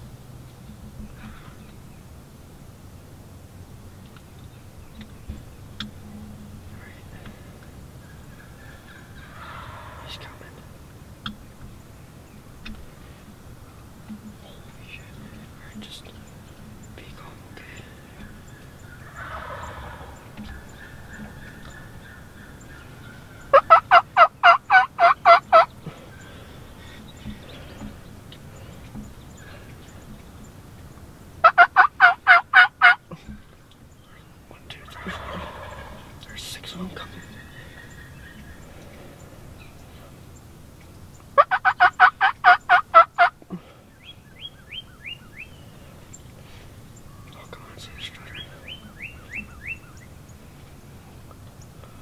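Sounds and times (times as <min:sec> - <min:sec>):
turkey calling: 0:00.6 - 0:02.0, 0:04.0 - 0:52.0.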